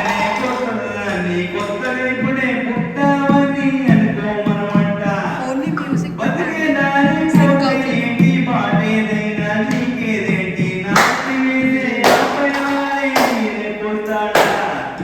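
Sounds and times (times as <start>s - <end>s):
man singing: 0.0s - 15.0s
sharp rhythmic hits: 0.0s - 15.0s.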